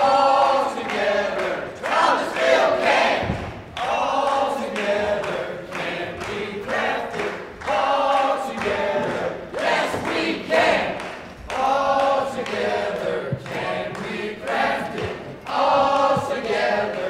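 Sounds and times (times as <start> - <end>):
group singing without instruments: 0.0 - 17.0.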